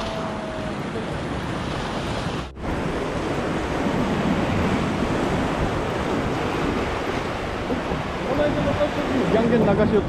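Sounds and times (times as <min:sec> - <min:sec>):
waves splashing on rocky shore: 0:00.0 - 0:10.0
wind on microphone: 0:00.0 - 0:10.0.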